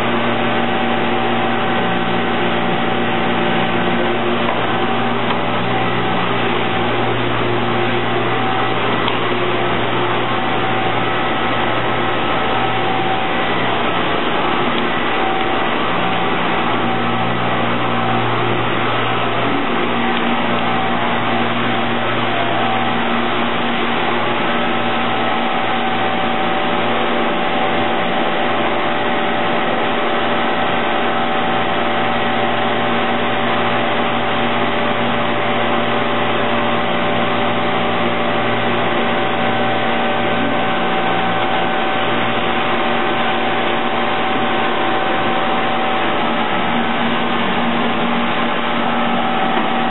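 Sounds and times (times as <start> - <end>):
factory machinery drone: 0.0 - 49.9.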